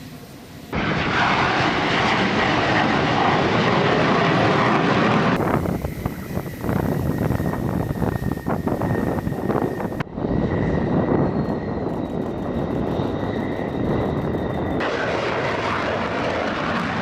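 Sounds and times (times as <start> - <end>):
jet engine whine and roar: 0.0 - 17.0.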